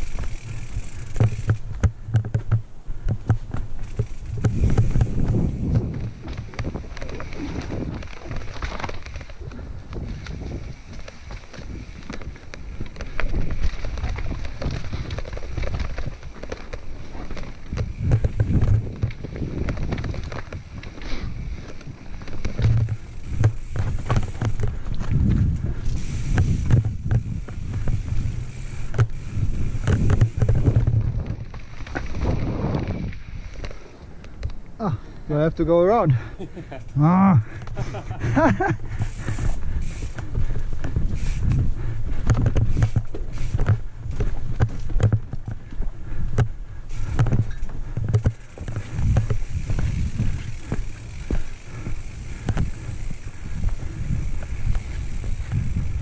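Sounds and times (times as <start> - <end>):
bike knocks and rattles: 0.0 - 35.0, 36.5 - 56.0
bike tyres rumbling over rocks: 0.0 - 56.0
wind buffeting microphone: 0.0 - 56.0.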